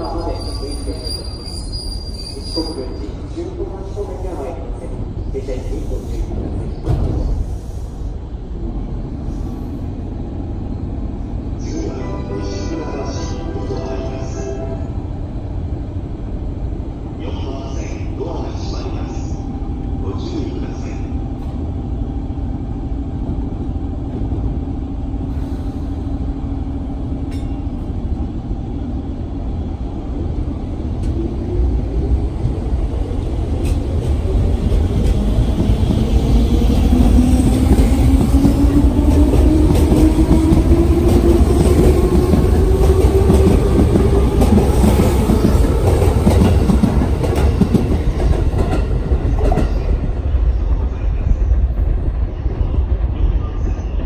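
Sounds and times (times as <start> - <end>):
low train running rumble: 0.0 - 54.0.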